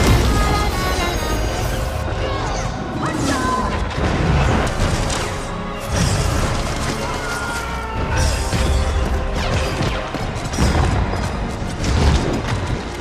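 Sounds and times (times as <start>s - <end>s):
loud action film music: 0.0s - 13.0s.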